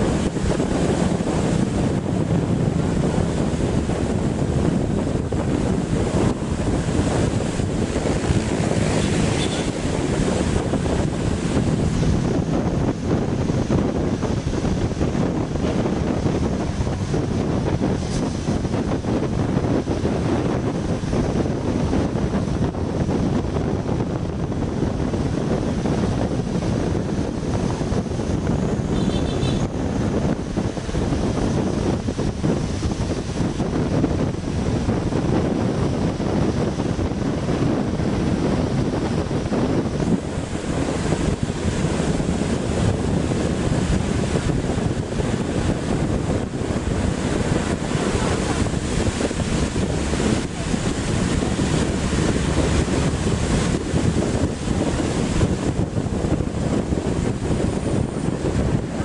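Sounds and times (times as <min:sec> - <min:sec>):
bus rumbling: 0:00.0 - 0:59.0
wind buffeting microphone: 0:00.0 - 0:59.0.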